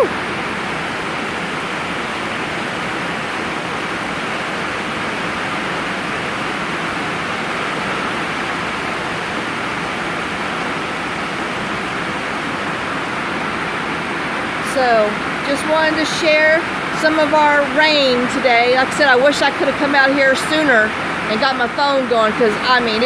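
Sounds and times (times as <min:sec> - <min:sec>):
steady rain: 0:00.0 - 0:23.0
water rushing through gutters: 0:00.0 - 0:23.0.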